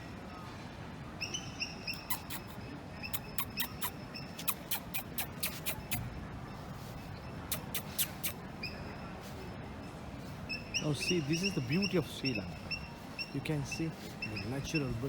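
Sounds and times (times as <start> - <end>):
small birds chirping: 1.2 - 9.1, 10.3 - 15.0.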